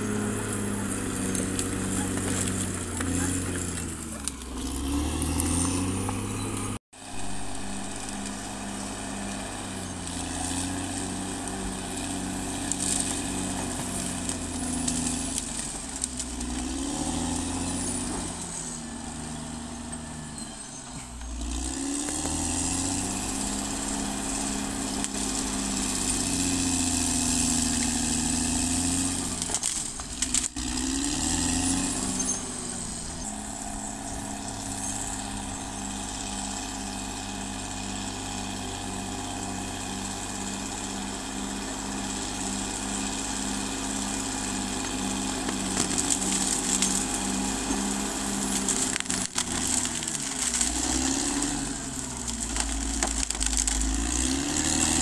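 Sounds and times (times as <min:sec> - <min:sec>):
bulldozer diesel engine revving: 0:00.0 - 0:55.0.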